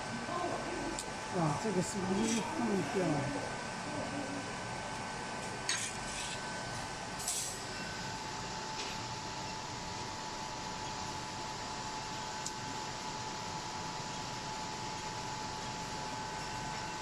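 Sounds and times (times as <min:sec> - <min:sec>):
hot-air blower hiss and whine: 0:00.0 - 0:17.0.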